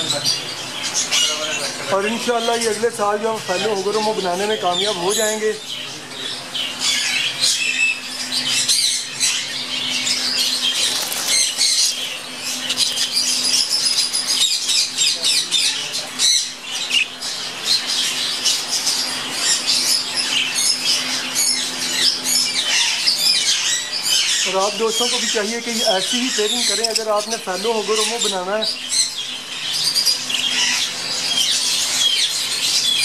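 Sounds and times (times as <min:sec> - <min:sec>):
budgerigars chattering and squawking: 0:00.0 - 0:33.0.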